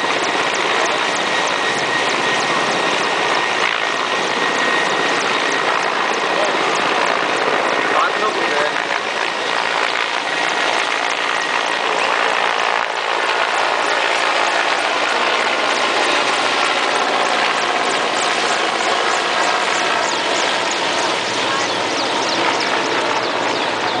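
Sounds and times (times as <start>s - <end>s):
helicopter passing overhead: 0.0s - 24.0s.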